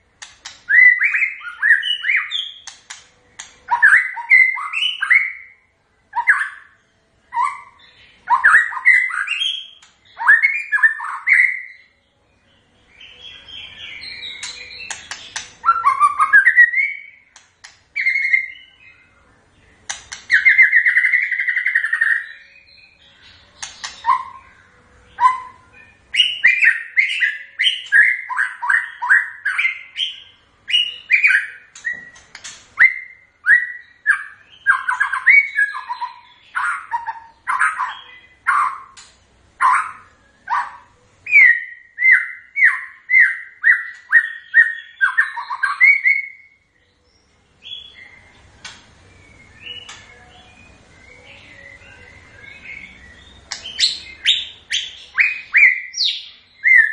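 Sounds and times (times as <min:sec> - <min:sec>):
bird singing whistled phrases: 0:00.7 - 0:02.8, 0:03.4 - 0:11.9, 0:13.1 - 0:17.3, 0:18.0 - 0:19.1, 0:20.3 - 0:23.0, 0:25.2 - 0:39.0, 0:39.6 - 0:46.6, 0:49.1 - 0:56.9.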